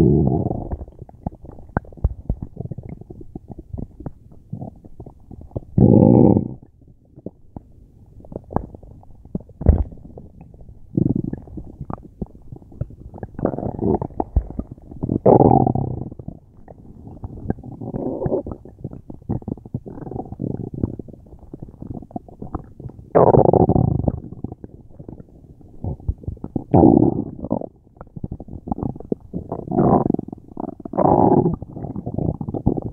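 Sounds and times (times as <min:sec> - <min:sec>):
stomach growling and gurgling: 0:00.0 - 0:32.9.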